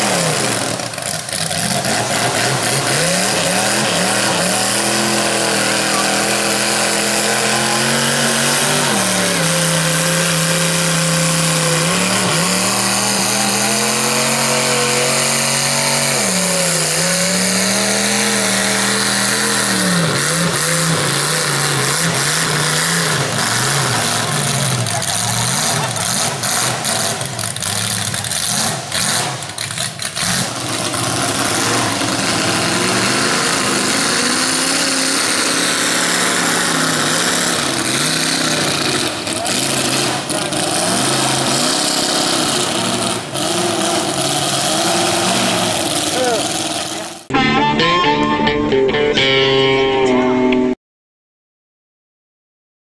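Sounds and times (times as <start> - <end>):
tires spinning in mud: 0.0 - 47.3
truck engine revving: 0.0 - 50.4.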